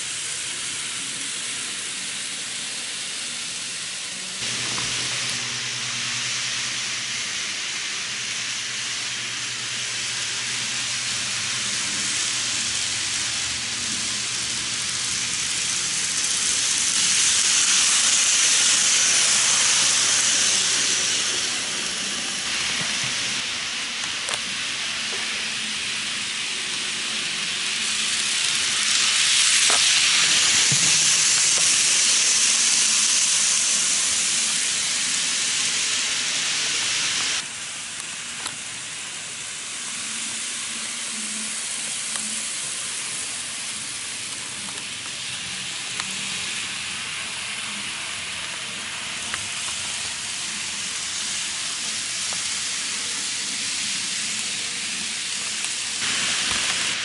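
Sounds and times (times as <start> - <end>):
model trains whirring on rails: 0.0 - 57.0.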